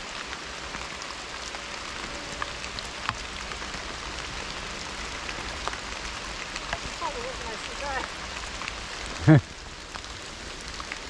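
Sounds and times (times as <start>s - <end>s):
rain falling in woodland: 0.0s - 11.0s
raindrops ticking: 0.0s - 11.0s.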